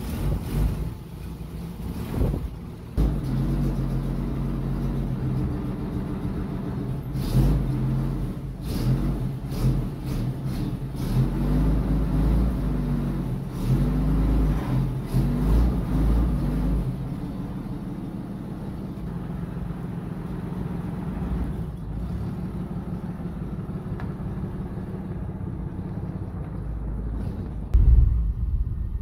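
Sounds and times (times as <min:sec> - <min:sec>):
car engine running: 0:00.0 - 0:28.8.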